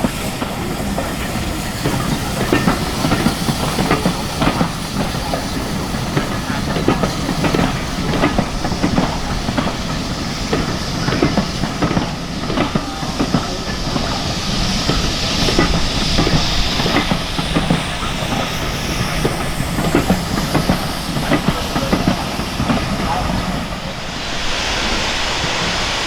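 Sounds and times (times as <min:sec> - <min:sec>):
hiss of steam: 0:00.0 - 0:26.0
train wheels clicking over rail joints: 0:00.0 - 0:26.0.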